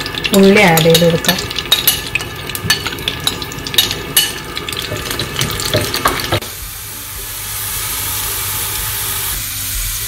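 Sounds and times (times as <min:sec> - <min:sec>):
shallots sizzling in fat: 0:00.0 - 0:10.0.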